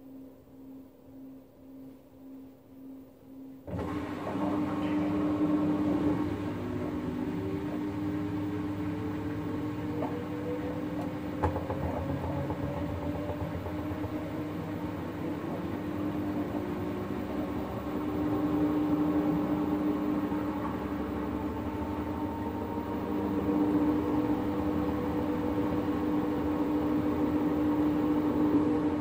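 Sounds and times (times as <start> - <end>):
faint rising whine: 0.0 - 29.0
washing machine pump hum: 3.6 - 29.0.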